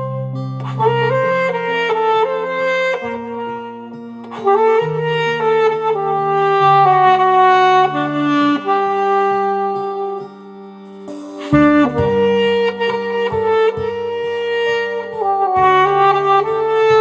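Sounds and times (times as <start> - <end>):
alto saxophone melody: 0.0 - 17.0
musical accompaniment: 0.0 - 17.0.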